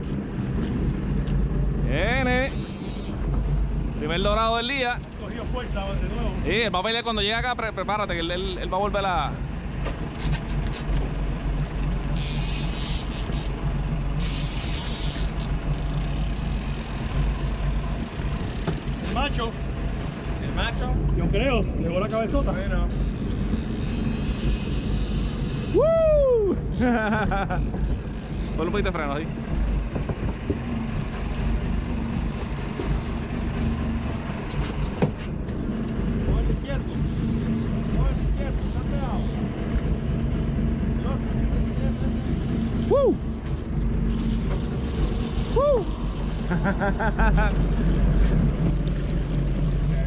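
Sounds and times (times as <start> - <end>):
boat engine humming: 0.0 - 50.0
wind: 0.0 - 50.0.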